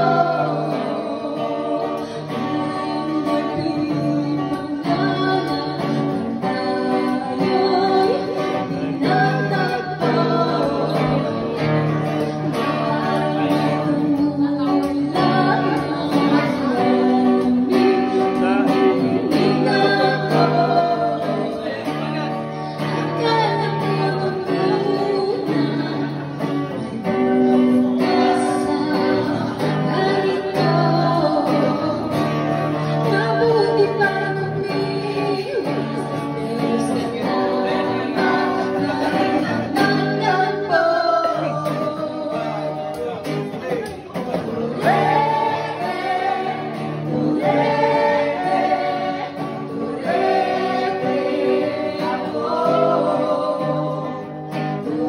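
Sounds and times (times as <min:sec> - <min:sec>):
woman singing into microphone: 0:00.0 - 0:43.2, 0:44.2 - 0:55.0
strummed acoustic guitar: 0:00.0 - 0:55.0.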